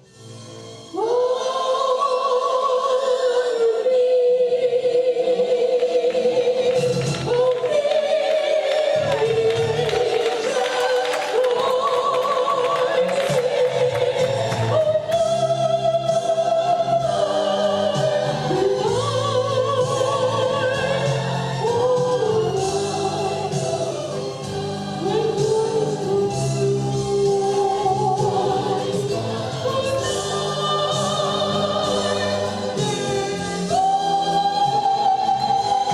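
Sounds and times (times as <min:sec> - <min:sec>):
gospel choir singing: 0:00.9 - 0:35.9.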